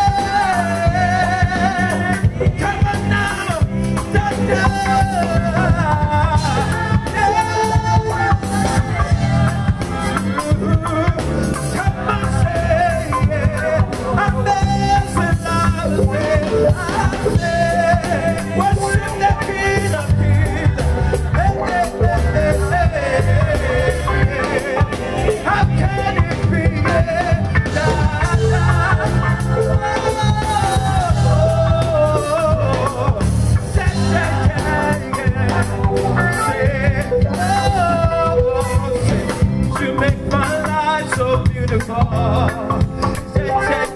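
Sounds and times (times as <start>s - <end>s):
bass guitar: 0.0s - 43.9s
drum kit: 0.0s - 43.9s
electric lead guitar: 0.0s - 43.9s
keyboard: 0.0s - 43.9s
voices singing: 0.0s - 43.9s.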